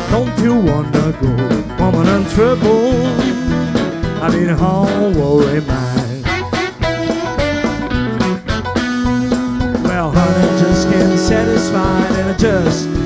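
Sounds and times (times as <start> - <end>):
bass: 0.0 - 13.0
electric guitar lead: 0.0 - 13.0
drum hits: 0.1 - 13.0.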